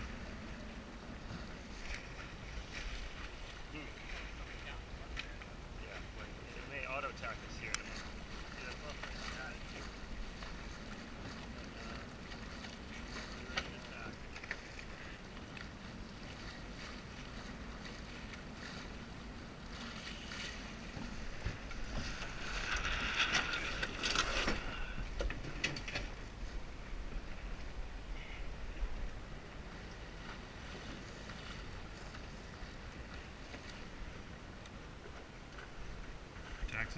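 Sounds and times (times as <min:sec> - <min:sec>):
water around a hull: 0:00.0 - 0:36.9
wind rumble on microphone: 0:07.2 - 0:36.9.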